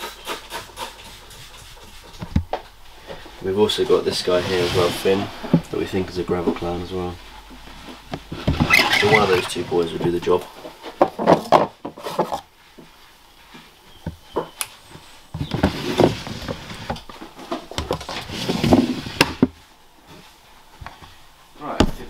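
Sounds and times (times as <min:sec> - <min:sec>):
plastic tubs scraping and rustling: 0:00.0 - 0:12.5, 0:13.5 - 0:20.4.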